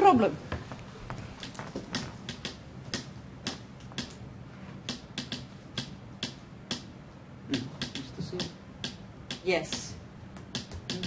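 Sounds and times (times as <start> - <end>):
sharp rhythmic taps: 1.4 - 4.2, 4.8 - 11.0.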